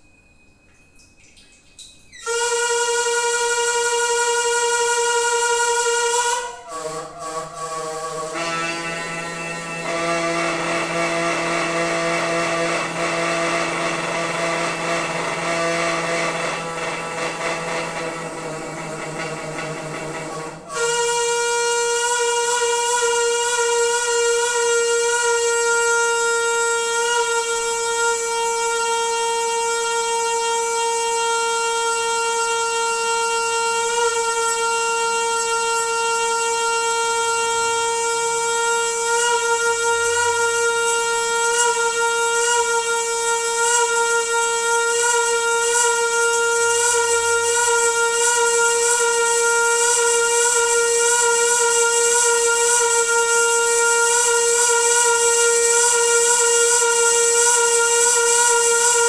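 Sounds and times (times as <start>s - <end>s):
water pipe droning: 0.0s - 59.0s.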